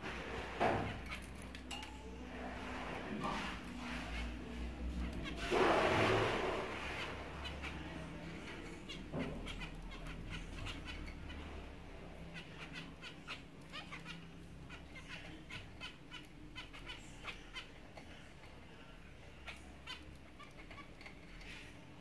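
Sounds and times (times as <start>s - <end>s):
finches chirping: 3.3s - 22.0s.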